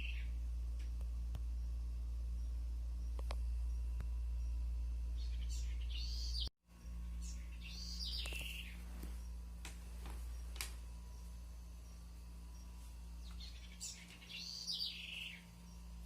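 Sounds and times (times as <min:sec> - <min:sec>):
birds chirping: 0:00.0 - 0:16.0
low hum: 0:00.0 - 0:16.0.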